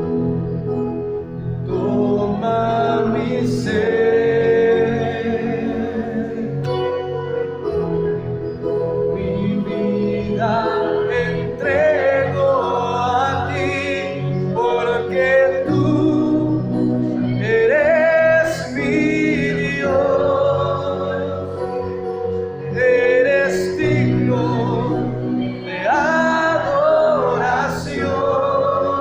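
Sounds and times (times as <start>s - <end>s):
instrumental accompaniment: 0.0s - 29.0s
voices singing slow melody: 0.0s - 29.0s.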